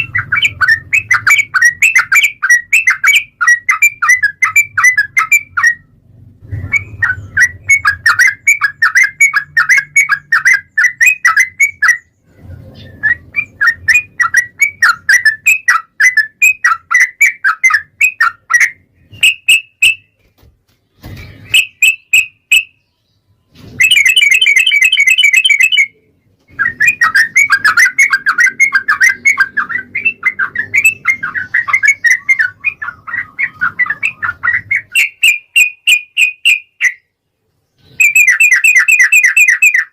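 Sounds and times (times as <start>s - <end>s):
bulbul chattering song: 0.0s - 12.2s, 12.8s - 20.2s, 21.2s - 37.2s, 37.8s - 39.9s.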